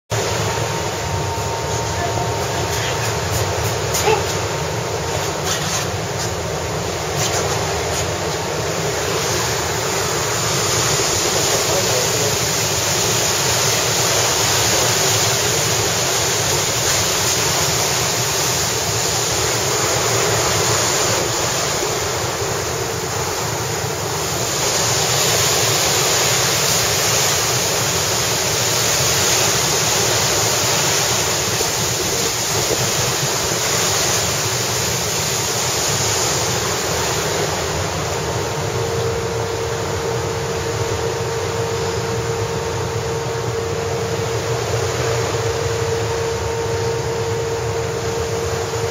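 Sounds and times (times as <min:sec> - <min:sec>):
water rushing past hull: 0:00.1 - 0:48.9.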